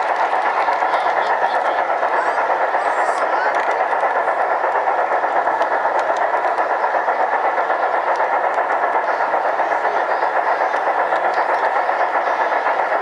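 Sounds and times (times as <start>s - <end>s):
model train motor whining: 0.0s - 13.0s
wheels rhythmic pulse: 0.0s - 13.0s.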